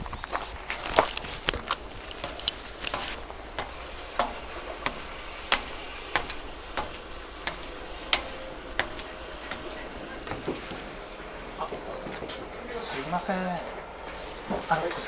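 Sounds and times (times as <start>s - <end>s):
footsteps on hard ground: 0.0s - 12.4s.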